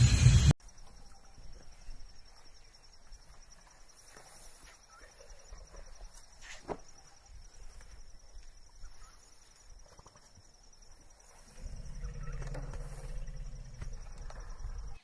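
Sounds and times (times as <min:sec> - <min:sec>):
pulsing insect trill: 0:00.1 - 0:15.0.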